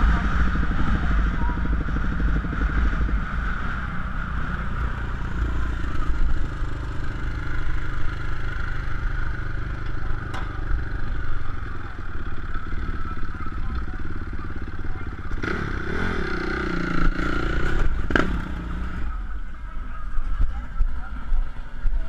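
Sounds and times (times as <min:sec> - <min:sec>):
motocross bike engine revving: 0:00.0 - 0:19.2.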